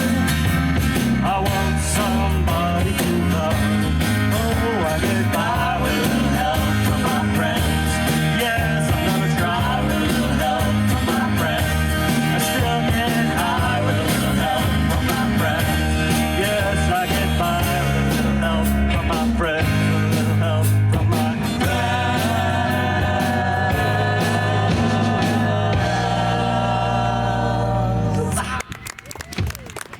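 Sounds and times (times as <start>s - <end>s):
rock band playing: 0.0s - 28.1s
guitar: 0.0s - 28.6s
person singing: 1.2s - 28.6s.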